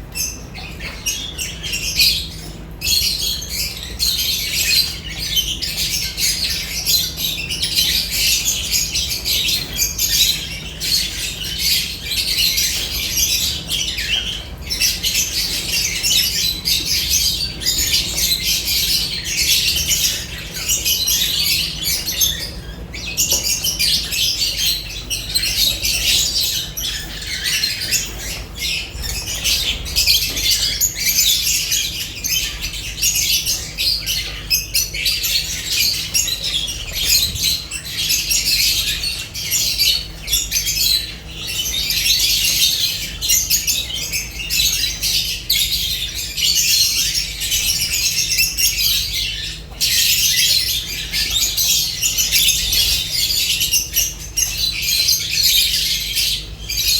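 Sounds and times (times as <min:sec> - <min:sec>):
lovebirds chattering and squawking: 0:00.0 - 0:56.9.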